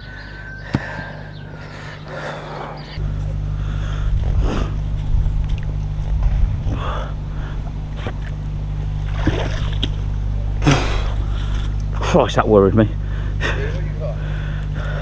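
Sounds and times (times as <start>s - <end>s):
motor boat engine humming: 0.0s - 15.0s.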